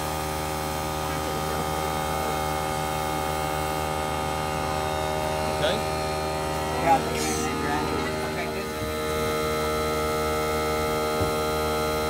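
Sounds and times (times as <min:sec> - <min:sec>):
air compressor humming: 0:00.0 - 0:12.0.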